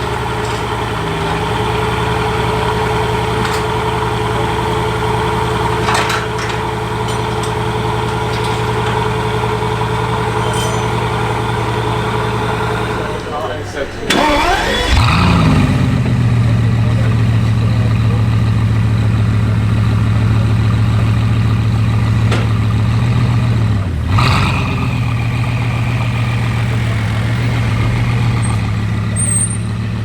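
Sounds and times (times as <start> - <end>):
car engine revving and idling: 0.0 - 30.0.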